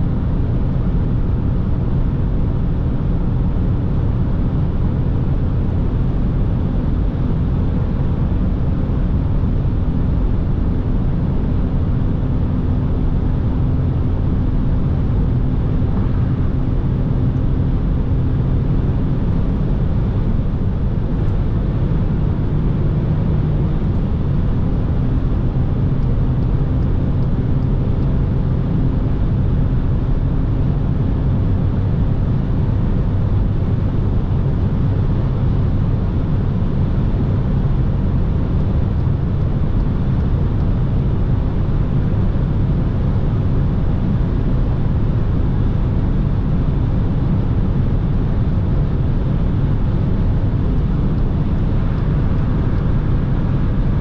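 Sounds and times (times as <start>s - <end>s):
car engine running under load: 0.0s - 54.0s
wind noise: 0.0s - 54.0s.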